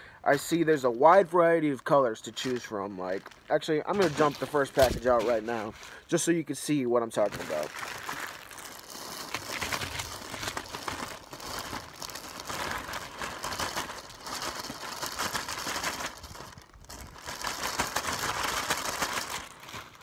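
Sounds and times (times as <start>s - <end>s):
plastic bag crinkling: 0.0s - 20.0s
plastic worms spilling onto a pile: 0.4s - 6.1s, 7.2s - 20.0s.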